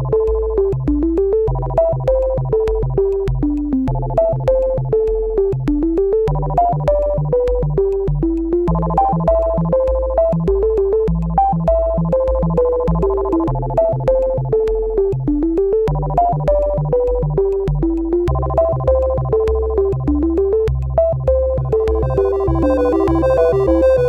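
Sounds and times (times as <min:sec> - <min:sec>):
synthesizer music with beat: 0:00.0 - 0:24.0.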